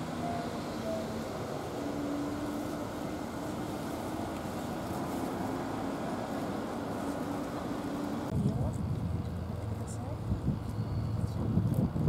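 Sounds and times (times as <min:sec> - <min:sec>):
distant motor rumble: 0:00.0 - 0:12.0.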